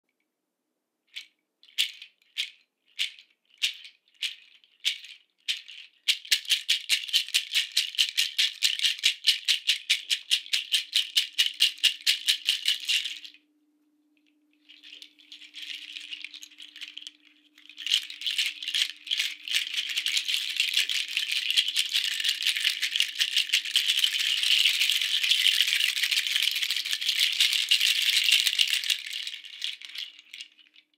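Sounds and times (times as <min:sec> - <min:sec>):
seed pod shaker rattling: 0:01.1 - 0:13.4, 0:14.6 - 0:30.9.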